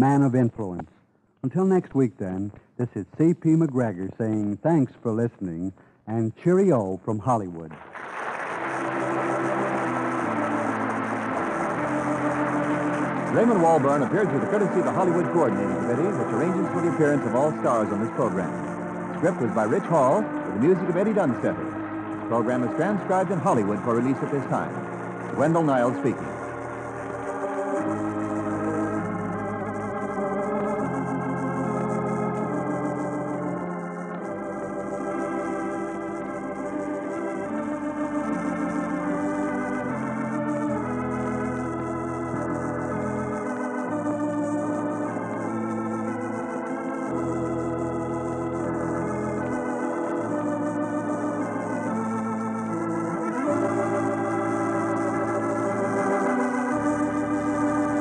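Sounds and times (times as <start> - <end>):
organ music: 0.0 - 58.0.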